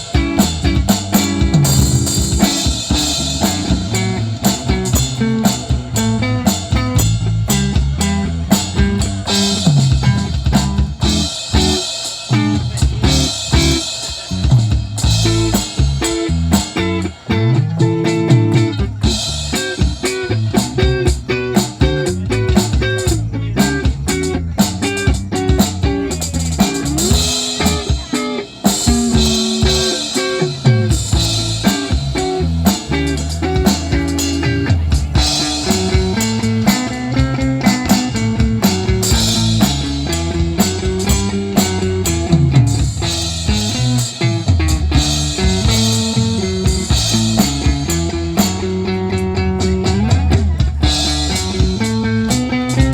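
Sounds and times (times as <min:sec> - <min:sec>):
rock music with electric guitar: 0:00.0 - 0:52.9.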